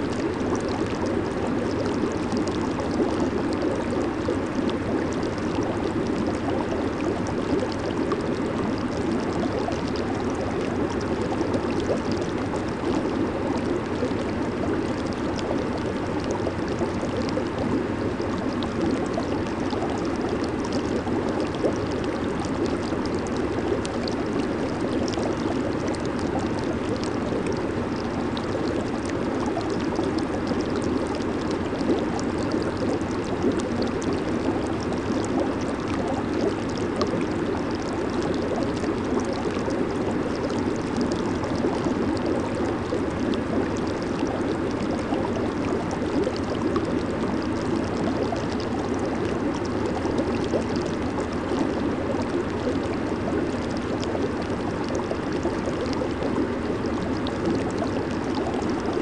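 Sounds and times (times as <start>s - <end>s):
jacuzzi jets churning water: 0.0s - 59.0s.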